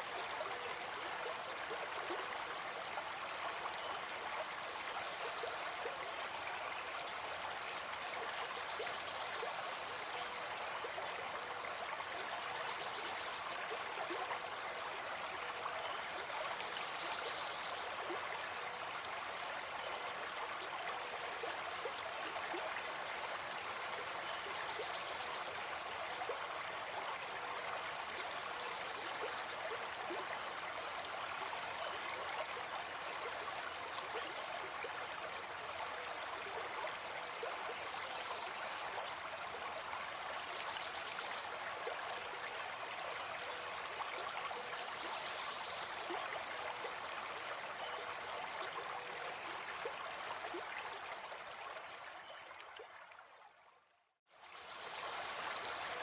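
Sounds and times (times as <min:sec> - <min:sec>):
stream flowing over stones: 0:00.0 - 0:53.4, 0:54.4 - 0:56.0.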